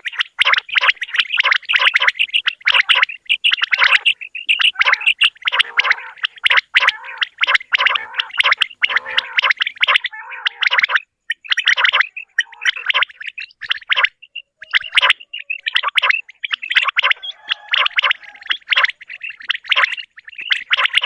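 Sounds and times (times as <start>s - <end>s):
quail calling: 0.0s - 21.0s.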